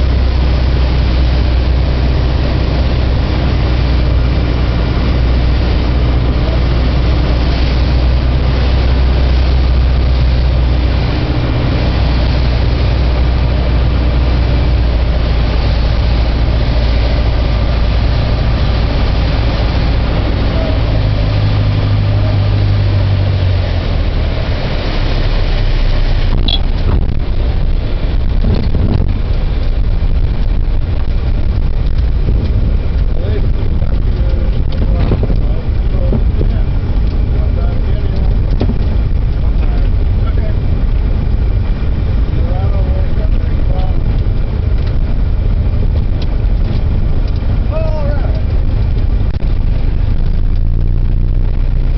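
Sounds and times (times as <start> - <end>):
airplane engine droning: 0.0 - 51.9.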